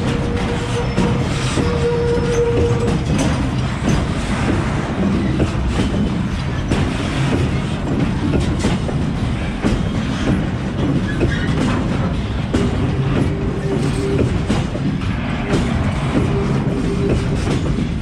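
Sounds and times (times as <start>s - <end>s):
freight wagon wheels clattering: 0.0s - 18.0s.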